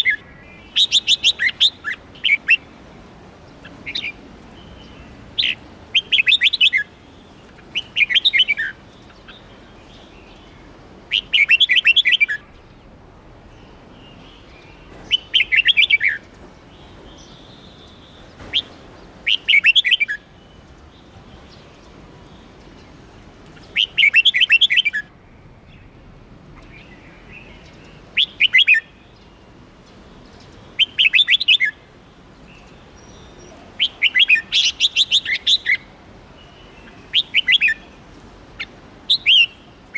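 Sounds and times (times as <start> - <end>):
bird singing warbled phrases: 0.0 - 2.8, 3.5 - 39.9.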